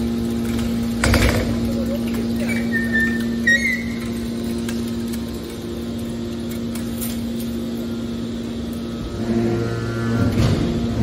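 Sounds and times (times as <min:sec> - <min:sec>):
hydraulic power unit humming: 0:00.0 - 0:11.0.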